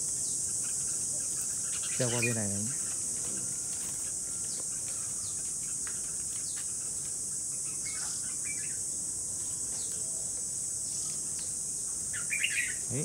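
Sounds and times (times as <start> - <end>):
insects droning: 0.0 - 13.0
bird chirps: 0.1 - 13.0.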